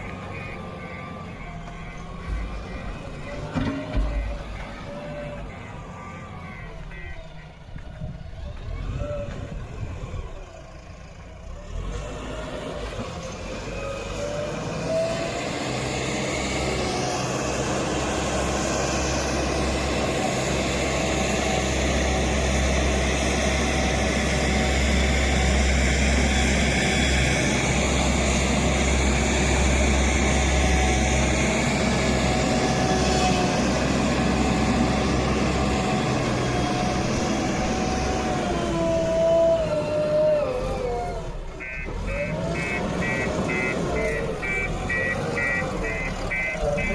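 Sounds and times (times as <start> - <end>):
diesel machinery engine rumbling: 0.0 - 46.9.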